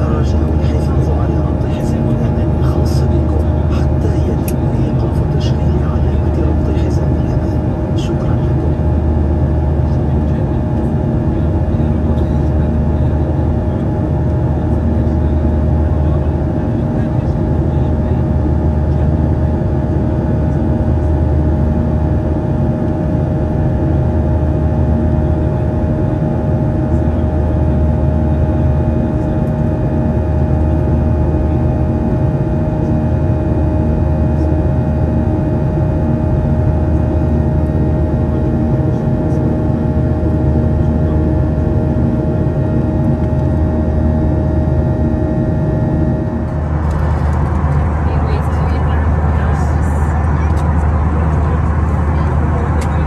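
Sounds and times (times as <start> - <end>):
airplane cabin drone: 0.0 - 53.0.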